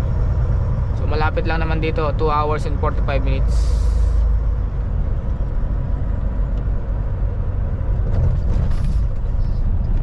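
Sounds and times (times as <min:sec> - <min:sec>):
truck diesel engine rumble: 0:00.0 - 0:10.0.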